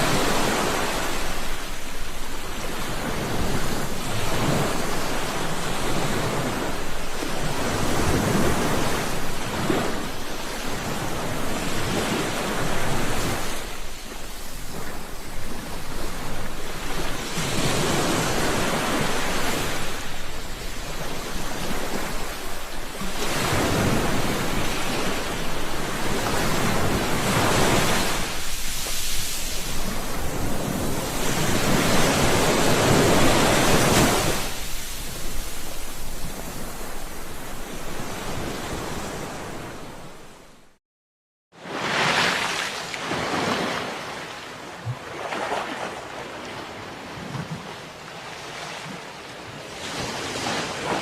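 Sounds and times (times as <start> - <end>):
ocean waves breaking on shore: 0.0 - 40.8, 41.6 - 51.0.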